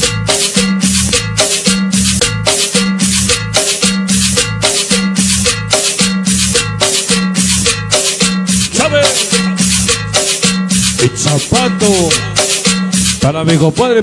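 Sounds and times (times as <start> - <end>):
cumbia music: 0.0 - 14.0.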